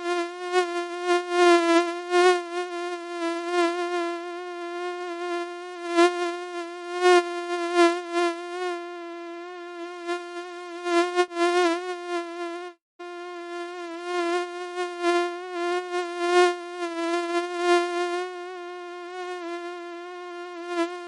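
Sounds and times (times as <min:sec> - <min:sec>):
mosquito wing whine: 0:00.0 - 0:21.0.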